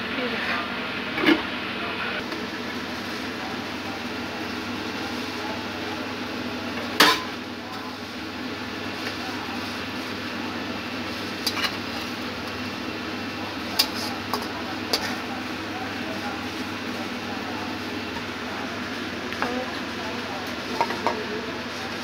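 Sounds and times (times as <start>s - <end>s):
food sizzling in a pot: 0.6s - 22.0s.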